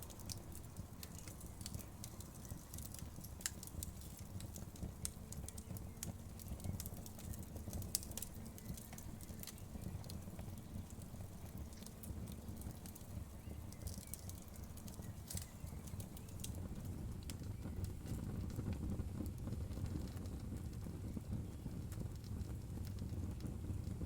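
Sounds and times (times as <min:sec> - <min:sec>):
low rumble of flames: 0:00.0 - 0:24.0
wood fire popping and clicking: 0:00.0 - 0:24.0.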